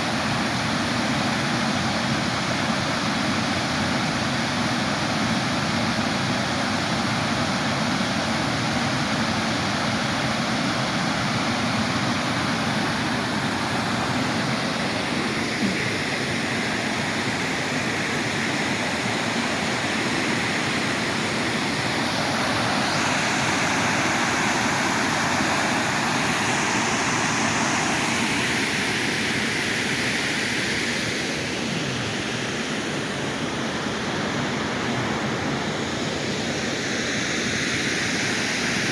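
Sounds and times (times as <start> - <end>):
waterfall rushing: 0.1 - 38.9.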